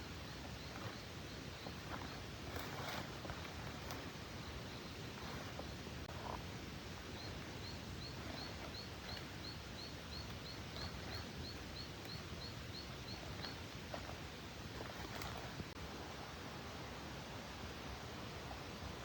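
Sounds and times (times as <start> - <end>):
forest background noise: 0.0 - 19.0.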